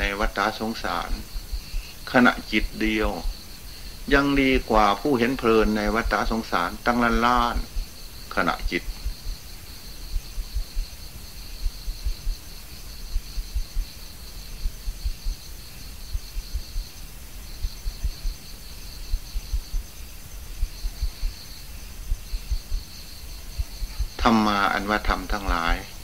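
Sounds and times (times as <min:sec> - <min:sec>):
faint low thumps: 0:00.0 - 0:26.0
insects chirring: 0:00.0 - 0:26.0.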